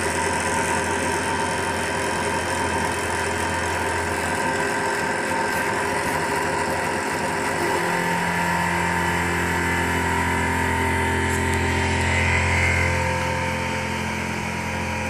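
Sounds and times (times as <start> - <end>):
low machine hum: 0.0 - 15.0
machine hum and whine: 0.0 - 15.0.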